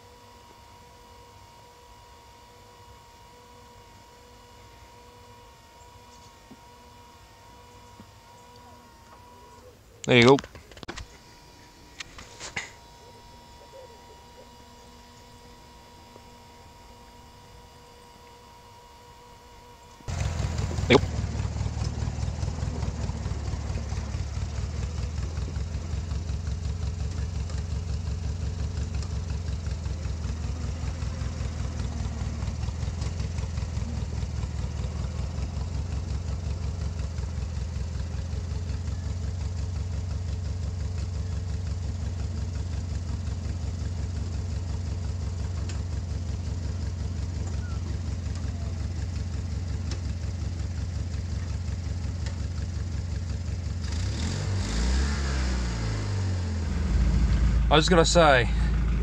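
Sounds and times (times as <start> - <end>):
mower engine idling: 0.0 - 59.0.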